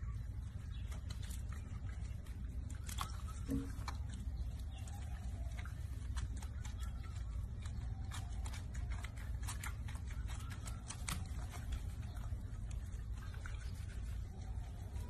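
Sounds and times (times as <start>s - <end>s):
steady low hum: 0.0s - 15.0s
water splashing in a washbasin: 0.0s - 15.0s.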